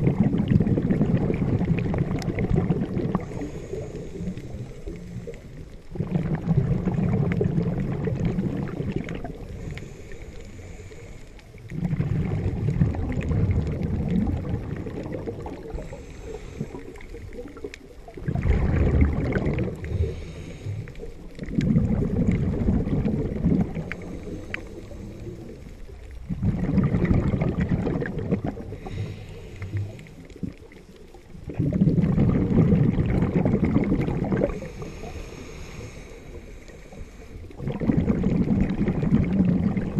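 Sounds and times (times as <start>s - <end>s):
underwater regulator bubbles: 0.0s - 39.9s
underwater water noise: 0.0s - 39.9s.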